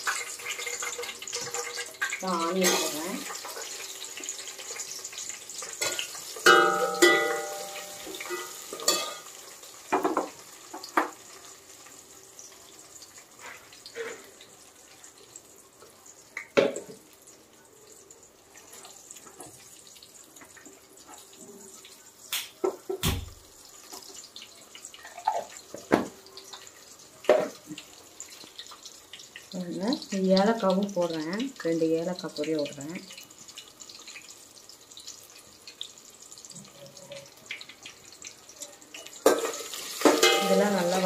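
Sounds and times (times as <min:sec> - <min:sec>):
spices sizzling in hot oil: 0:00.0 - 0:41.0.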